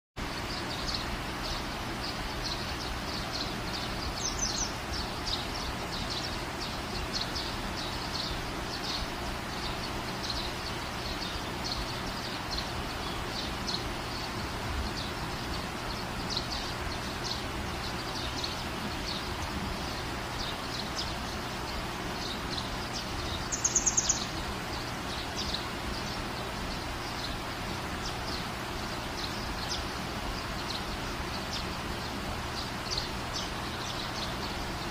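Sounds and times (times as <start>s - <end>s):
steady hiss: 0.2s - 34.9s.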